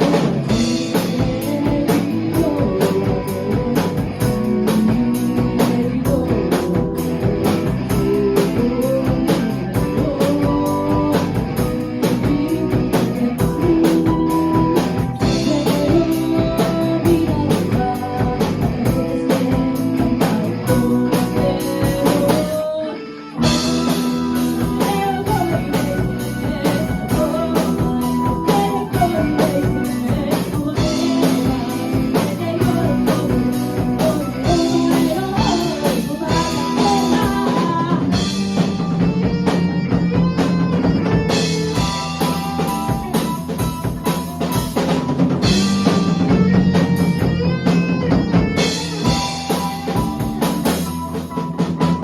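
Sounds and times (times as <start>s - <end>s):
bass drum beat: 0.0s - 22.6s, 23.4s - 52.0s
electric guitars: 0.0s - 52.0s
rock band playing: 0.0s - 52.0s.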